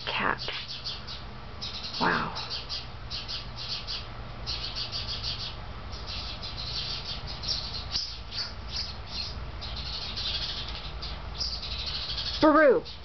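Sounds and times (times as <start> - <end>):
birds giving alarm chirps: 0.0 - 13.0.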